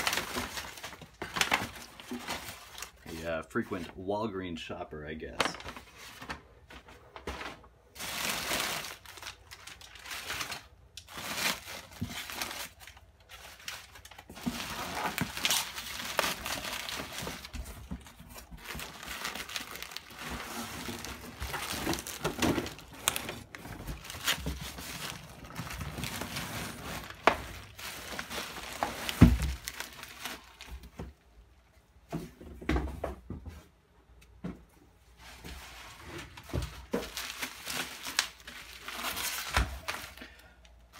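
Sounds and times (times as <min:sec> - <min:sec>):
paper and bubble wrap rustling: 0:00.0 - 0:04.0, 0:05.3 - 0:31.2, 0:35.0 - 0:40.9.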